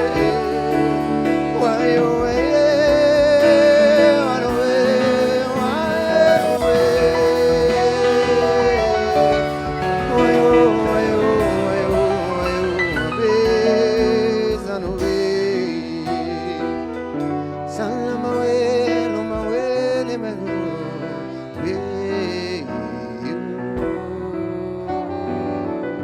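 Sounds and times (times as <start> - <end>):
band playing: 0.0 - 26.0.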